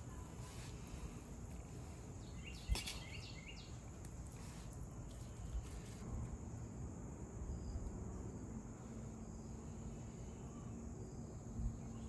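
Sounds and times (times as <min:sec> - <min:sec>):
faint low hum: 0:00.0 - 0:12.0
faint outdoor background noise: 0:00.0 - 0:12.0.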